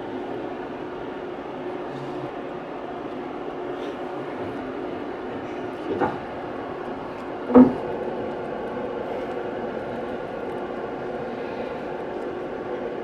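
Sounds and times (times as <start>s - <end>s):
lecture hall room hum: 0.0s - 13.0s.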